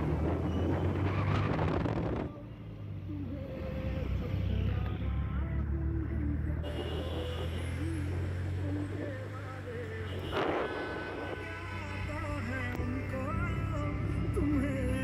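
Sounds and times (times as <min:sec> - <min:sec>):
car engine and tyres hum: 0:00.0 - 0:15.0
passing vehicles and road noise: 0:00.0 - 0:15.0.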